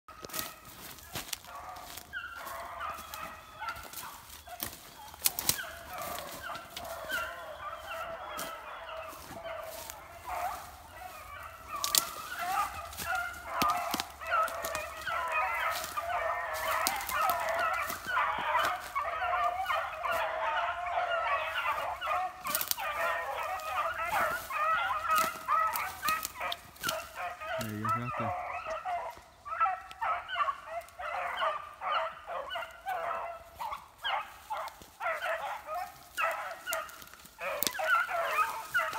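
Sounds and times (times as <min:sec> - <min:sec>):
hounds baying in chorus: 0:00.1 - 0:38.9.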